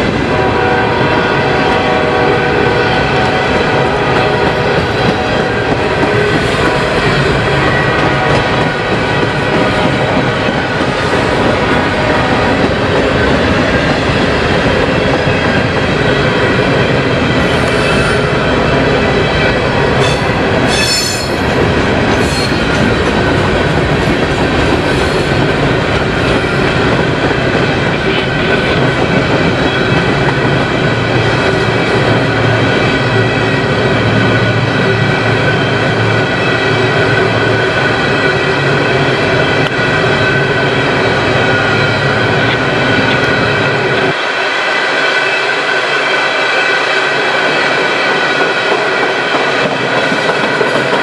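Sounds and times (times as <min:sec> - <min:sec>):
train wheels on rail: 0:00.0 - 0:51.0.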